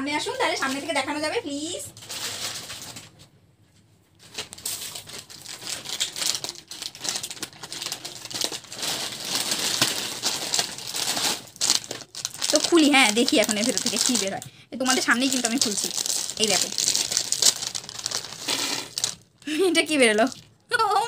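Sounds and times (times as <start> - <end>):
foil packets crinkling: 2.0 - 3.2, 4.2 - 20.6.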